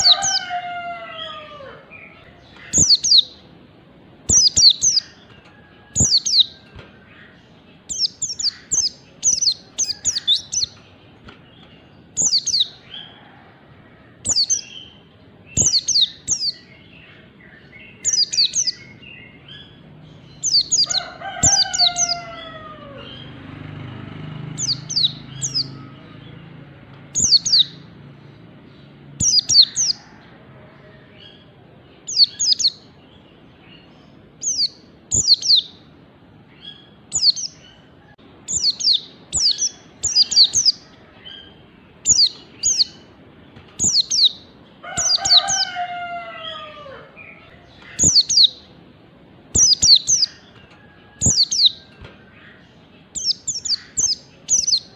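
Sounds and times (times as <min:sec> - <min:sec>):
bird high chirps: 0:00.0 - 0:03.6, 0:04.2 - 0:13.2, 0:14.2 - 0:23.5, 0:24.5 - 0:26.3, 0:27.1 - 0:27.9, 0:29.2 - 0:30.1, 0:32.0 - 0:33.0, 0:33.8 - 0:35.9, 0:36.6 - 0:48.8, 0:49.5 - 0:54.9.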